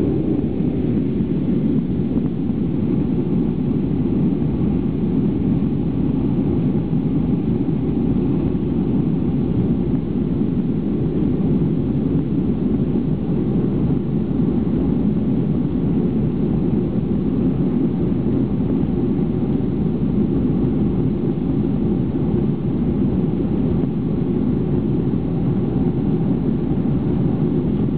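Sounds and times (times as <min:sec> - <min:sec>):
airplane cabin engine rumble: 0:00.0 - 0:27.9.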